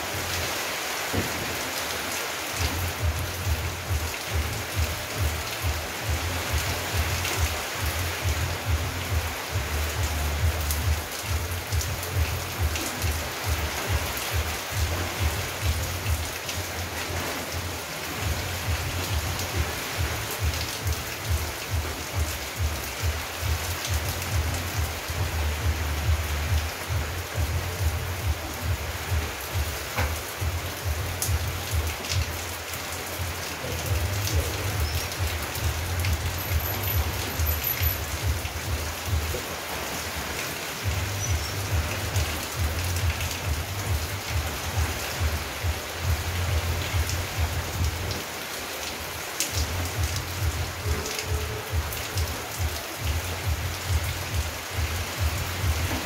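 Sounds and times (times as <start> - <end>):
rain falling on plants and concrete: 0.0 - 56.0
water dripping: 2.6 - 48.3.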